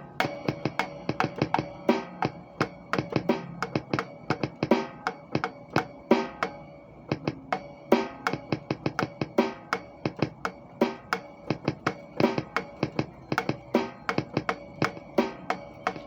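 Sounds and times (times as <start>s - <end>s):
drum kit playing: 0.0s - 16.0s.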